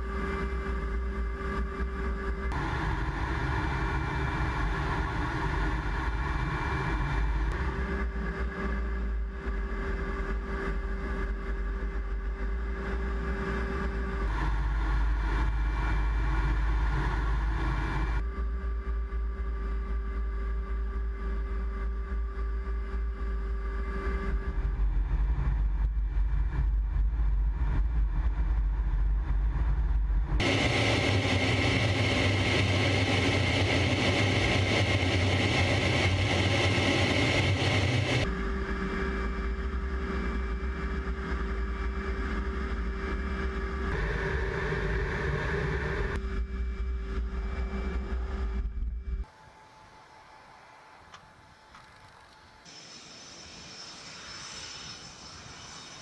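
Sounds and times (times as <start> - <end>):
jet engine drone: 0.0 - 56.0
steady hum: 0.0 - 56.0.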